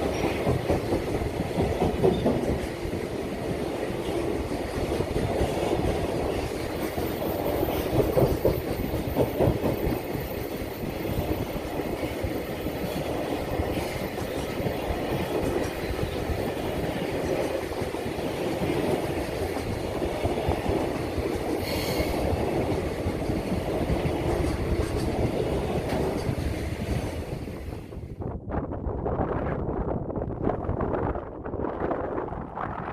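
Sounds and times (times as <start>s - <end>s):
freight train wheels rumbling: 0.0s - 28.4s.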